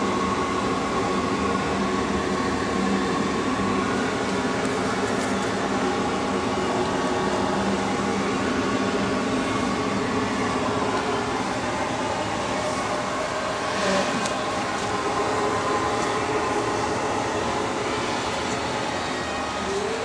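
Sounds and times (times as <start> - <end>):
lathe machine hum: 0.0 - 20.0.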